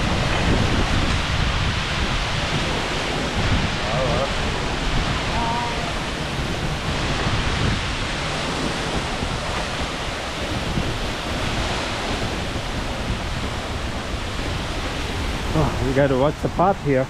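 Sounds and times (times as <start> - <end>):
waterfall rushing: 0.0 - 17.0
wind buffeting microphone: 0.0 - 17.0.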